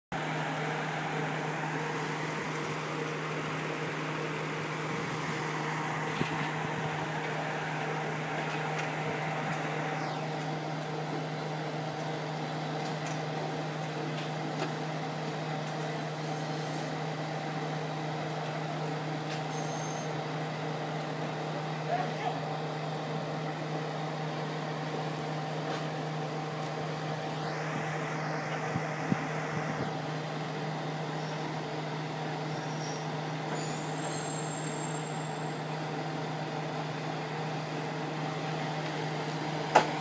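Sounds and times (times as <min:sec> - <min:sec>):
diesel railcar engine idling: 0:00.1 - 0:40.0.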